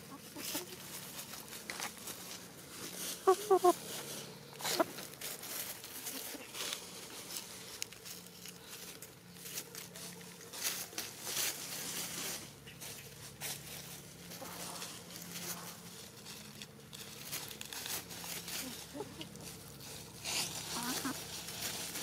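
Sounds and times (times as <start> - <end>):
dry leaves rustling and crackling: 0.0 - 22.0.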